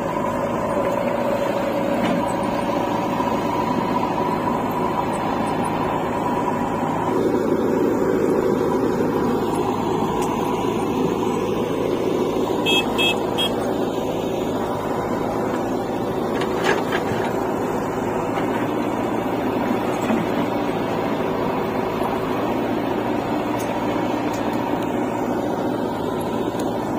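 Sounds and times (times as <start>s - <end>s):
backhoe dumping soil: 0.0s - 12.7s, 13.6s - 26.9s
diesel engines running: 0.0s - 26.9s.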